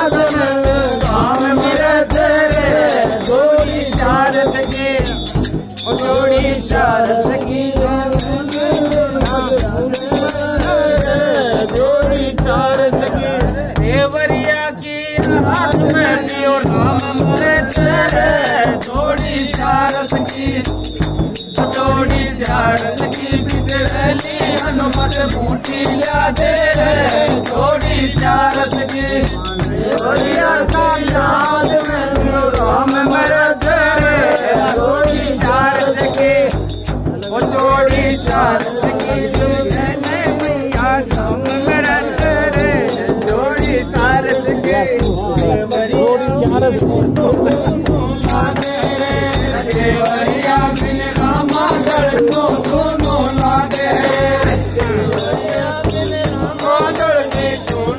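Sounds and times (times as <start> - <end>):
drum beat: 0.0 - 57.9
men singing together: 0.0 - 57.9.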